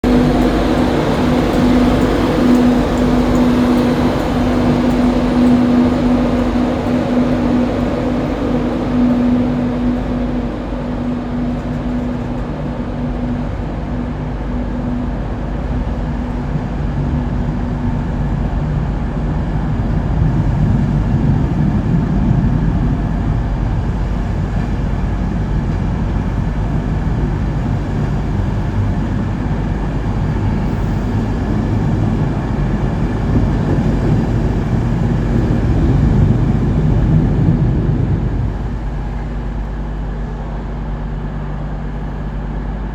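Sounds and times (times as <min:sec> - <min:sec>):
train electric hum: 0:00.0 - 0:42.9
train low rumble: 0:00.0 - 0:42.9.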